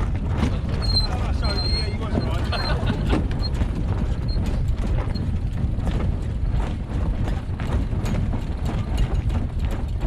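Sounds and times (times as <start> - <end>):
irregular clicks and knocks: 0.0 - 10.0
wind buffeting microphone: 0.0 - 10.0.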